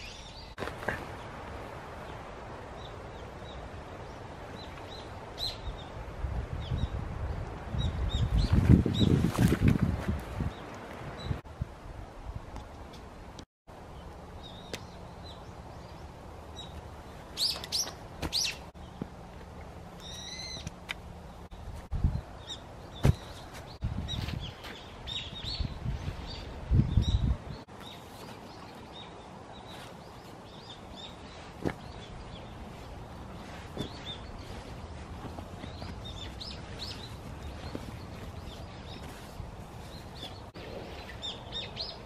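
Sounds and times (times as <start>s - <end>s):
wild birds chirping: 0.0s - 9.2s, 13.7s - 42.0s.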